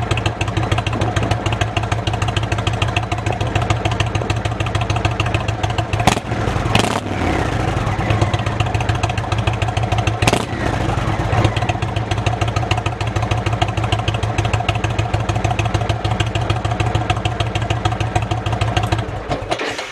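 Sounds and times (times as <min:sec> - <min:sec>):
motorcycle engine idling: 0:00.0 - 0:19.6
motorcycle throttle blips: 0:00.1 - 0:19.1.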